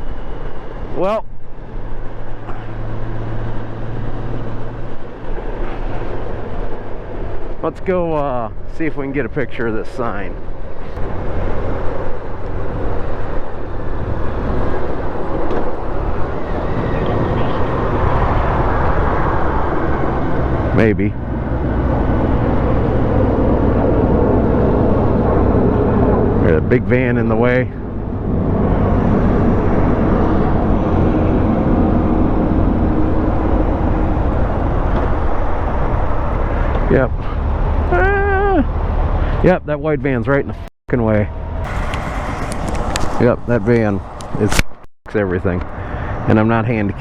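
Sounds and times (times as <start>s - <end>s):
motorcycle engine rumble: 0.0s - 44.6s
road noise: 0.0s - 47.0s
wind rushing on microphone: 0.0s - 47.0s.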